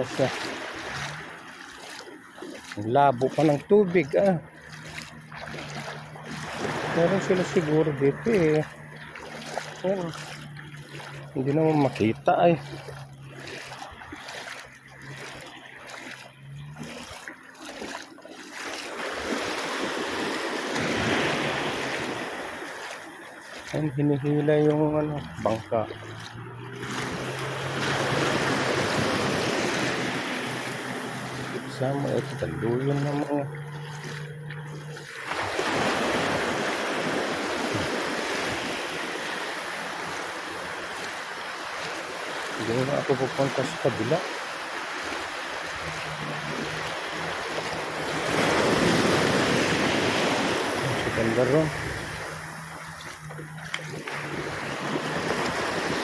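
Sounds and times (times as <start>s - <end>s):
surf rushing: 0.0s - 18.0s, 18.8s - 56.0s
seawater sloshing: 0.0s - 56.0s
wave breaking in shallow water: 0.0s - 56.0s.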